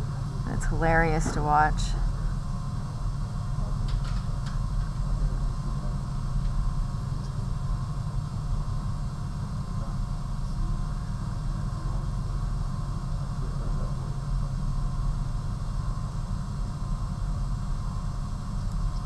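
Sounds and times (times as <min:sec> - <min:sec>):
low rumbling hum: 0:00.0 - 0:19.0.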